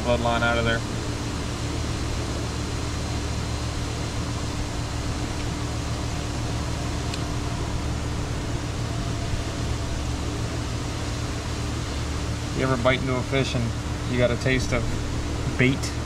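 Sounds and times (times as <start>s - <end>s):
machine hum with hiss: 0.0s - 16.0s.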